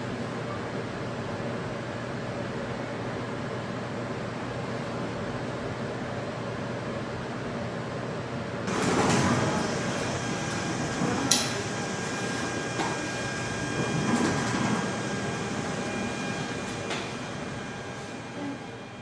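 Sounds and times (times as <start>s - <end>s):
machinery hum and hiss: 0.0s - 19.0s.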